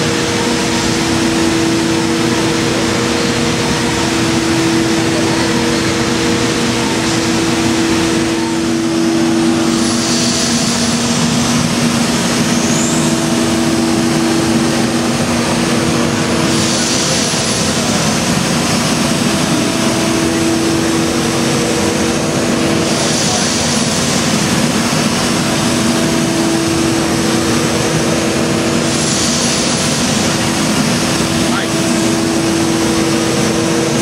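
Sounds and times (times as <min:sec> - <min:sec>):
cnc router cutting wood: 0:00.0 - 0:34.0.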